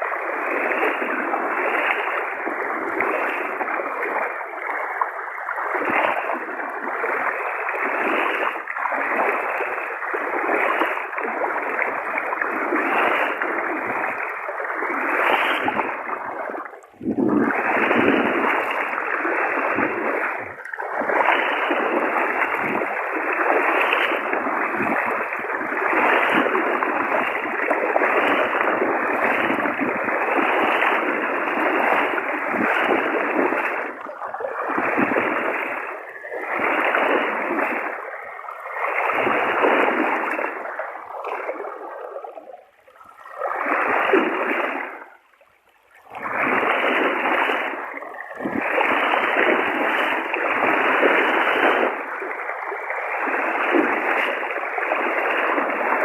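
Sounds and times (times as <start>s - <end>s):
floodwater rushing and splashing: 0.0s - 56.0s.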